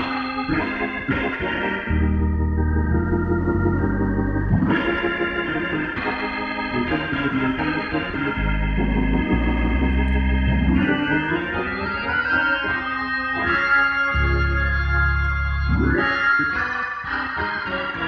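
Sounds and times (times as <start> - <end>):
organ playing sustained chords: 0.0 - 18.0.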